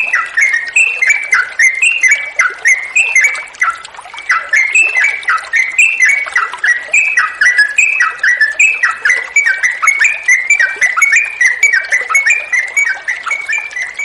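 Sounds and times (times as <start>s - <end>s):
bulbul singing chattering notes: 0.0s - 14.0s
running water trickling: 0.0s - 14.0s.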